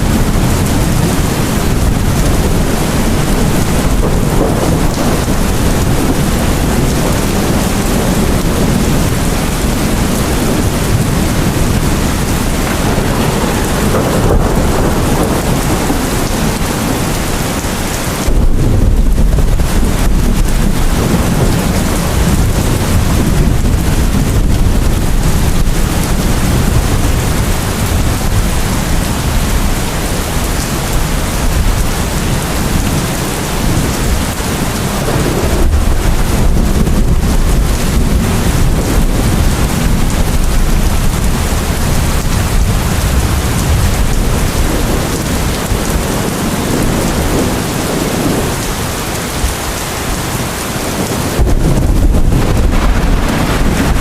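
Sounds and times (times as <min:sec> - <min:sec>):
deep rumble of thunder: 0:00.0 - 0:54.0
heavy rain falling: 0:00.0 - 0:54.0.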